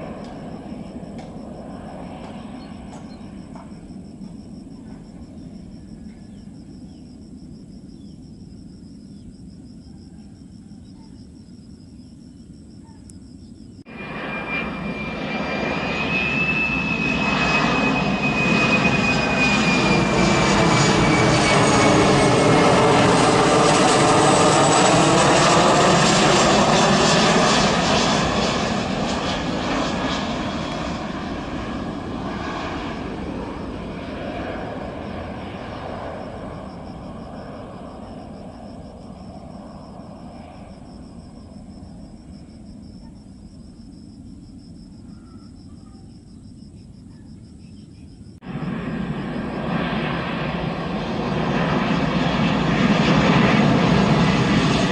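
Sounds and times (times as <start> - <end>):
faint insect chirping: 0.0 - 22.4, 23.2 - 50.5
jet plane passing overhead: 0.0 - 54.9.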